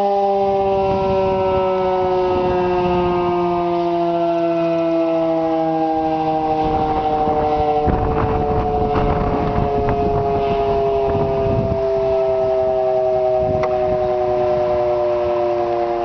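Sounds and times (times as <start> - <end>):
outdoor warning siren: 0.0 - 16.0.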